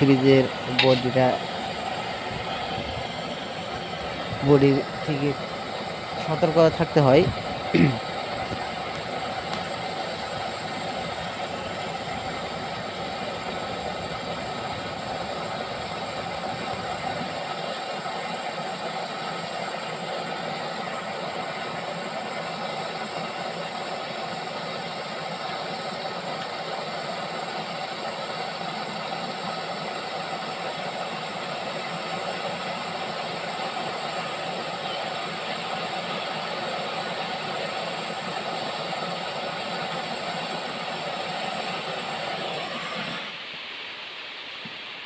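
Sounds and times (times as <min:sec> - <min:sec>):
torch flame hissing: 0:00.0 - 0:45.0.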